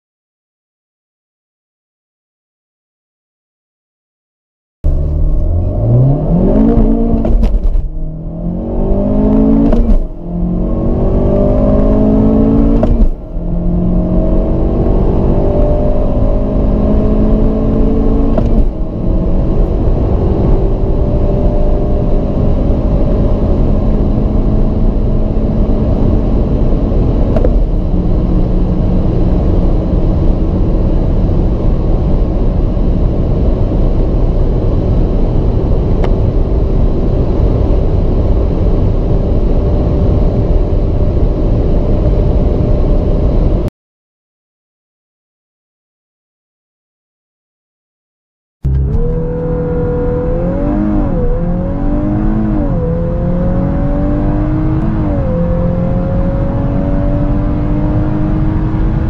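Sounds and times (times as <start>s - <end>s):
car engine accelerating through gears: 4.9s - 43.7s, 48.6s - 59.0s.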